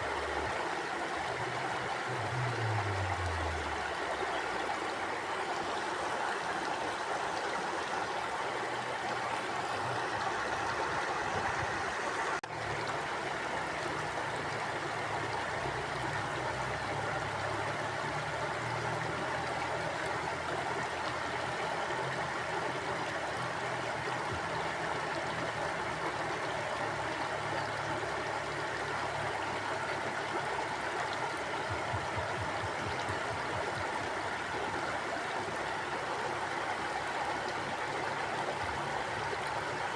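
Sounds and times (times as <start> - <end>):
river rushing and gurgling: 0.0 - 39.9.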